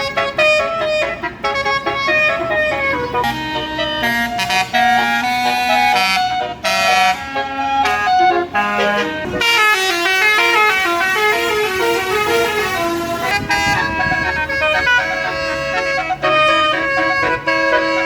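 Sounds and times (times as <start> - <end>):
multi-trumpet air horn tune: 0.0 - 18.0.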